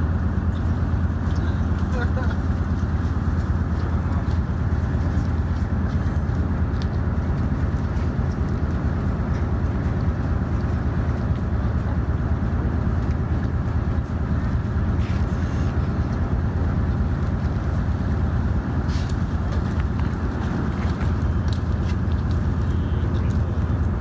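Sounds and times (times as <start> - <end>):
ferry engines droning: 0.0 - 24.0.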